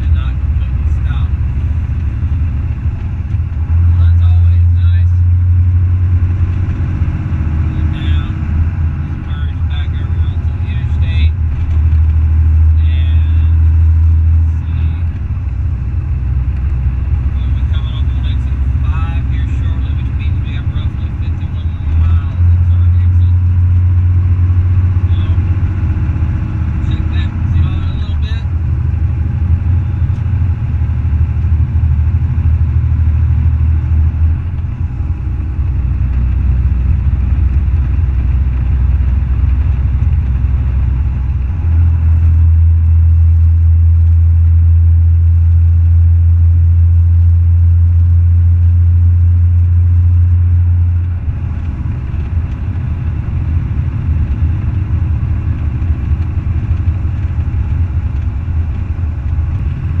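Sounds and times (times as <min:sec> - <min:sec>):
diesel truck engine running: 0:00.0 - 1:00.0.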